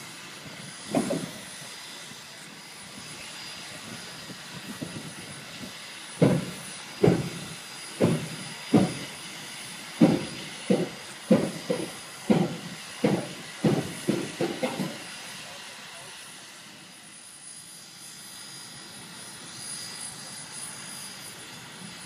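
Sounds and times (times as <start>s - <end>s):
rhythmic steam chuffs: 0.0s - 22.0s
steam locomotive hissing: 0.0s - 22.0s.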